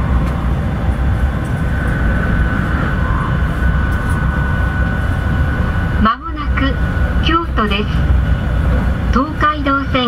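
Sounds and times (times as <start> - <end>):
high whine: 0.0 - 10.0
train cabin low rumble: 0.0 - 10.0.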